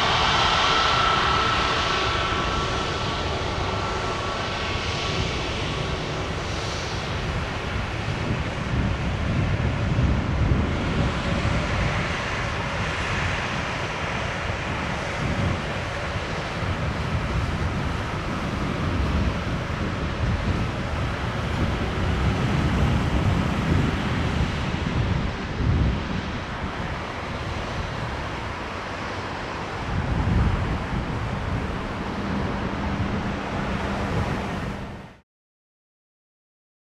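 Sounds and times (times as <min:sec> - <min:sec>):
jet engines rumbling: 0:00.0 - 0:35.2
wind buffeting microphone: 0:00.0 - 0:35.2.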